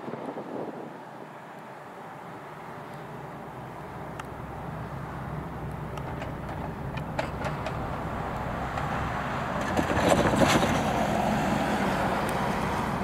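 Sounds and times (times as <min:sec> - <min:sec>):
road traffic noise: 0:00.0 - 0:13.0
vehicle passing: 0:02.1 - 0:13.0.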